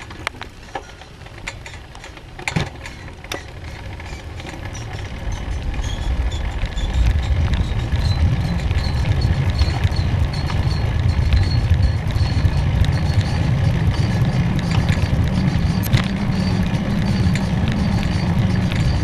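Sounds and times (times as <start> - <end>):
road noise: 0.0 - 19.0
wind rumbling on microphone: 2.6 - 19.0.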